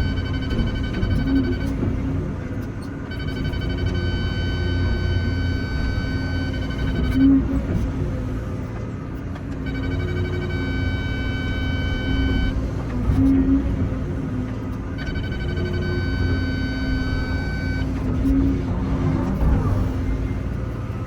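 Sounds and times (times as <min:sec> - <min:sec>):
excavator engine and hydraulics: 0:00.0 - 0:21.0.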